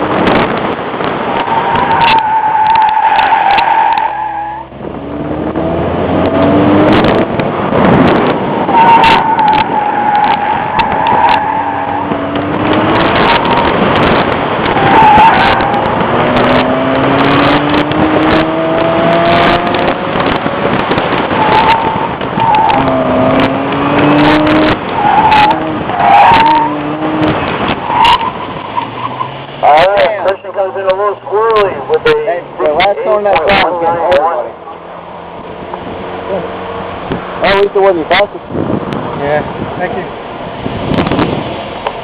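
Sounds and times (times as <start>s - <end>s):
car engine revving: 0.0s - 42.0s
tires squealing: 0.0s - 42.0s.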